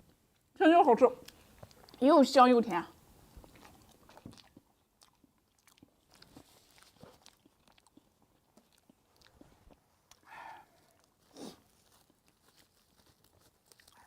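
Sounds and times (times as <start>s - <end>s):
chewing with wet mouth clicks: 1.2s - 2.2s, 2.9s - 14.0s.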